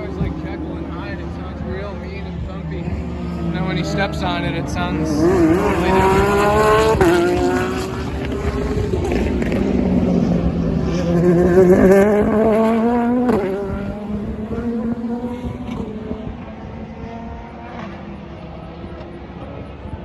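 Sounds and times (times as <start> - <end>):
race car engine accelerating: 0.0 - 20.0.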